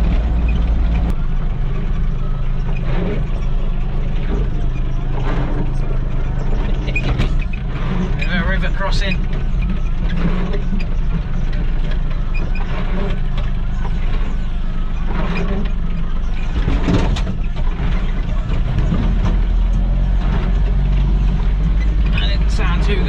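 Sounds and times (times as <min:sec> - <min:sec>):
knocks and clatters: 0:00.0 - 0:23.0
utility vehicle engine droning: 0:00.0 - 0:23.0.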